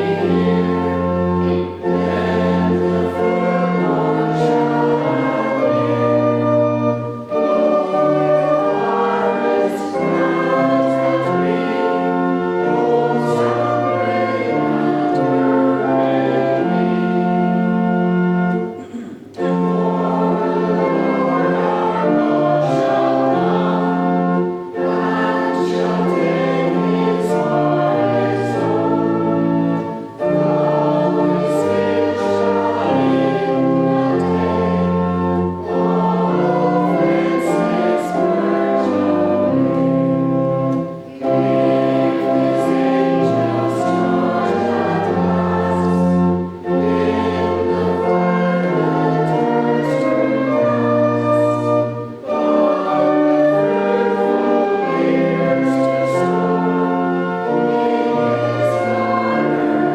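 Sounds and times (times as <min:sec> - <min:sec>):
sustained accompaniment with bass line: 0:00.0 - 0:59.9
voices singing a hymn: 0:00.0 - 0:59.9.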